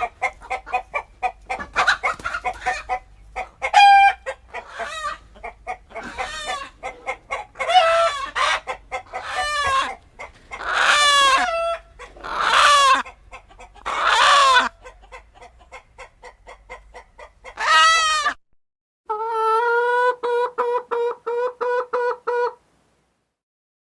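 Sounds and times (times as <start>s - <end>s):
chickens clucking: 0.0s - 18.4s, 19.1s - 22.6s.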